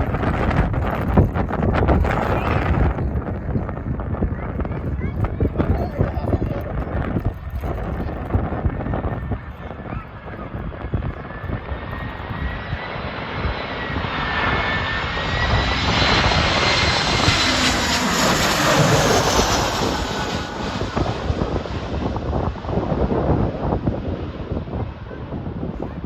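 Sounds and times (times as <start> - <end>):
airliner jet engines roaring: 0.0 - 26.0
wind buffeting microphone: 0.0 - 26.0.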